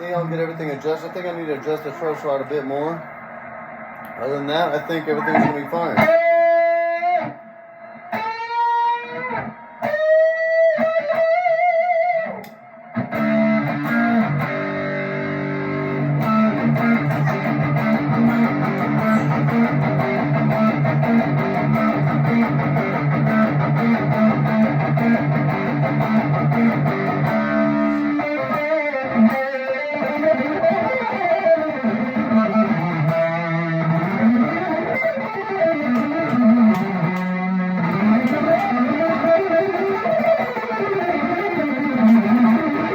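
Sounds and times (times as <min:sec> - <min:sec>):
electric guitar through amp: 0:00.0 - 0:42.9.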